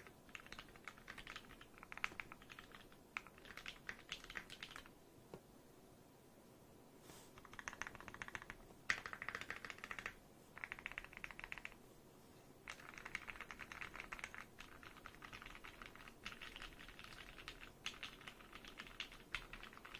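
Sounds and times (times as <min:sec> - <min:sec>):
mechanical keyboard typing: 0:00.0 - 0:04.9, 0:07.4 - 0:11.8, 0:12.7 - 0:19.9.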